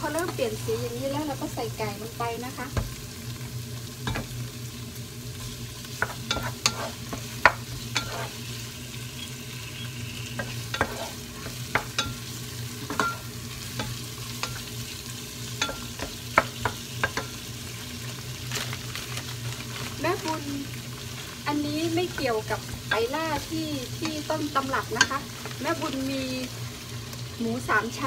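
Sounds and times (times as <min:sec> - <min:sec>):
food sizzling in a pot: 0:00.0 - 0:28.0.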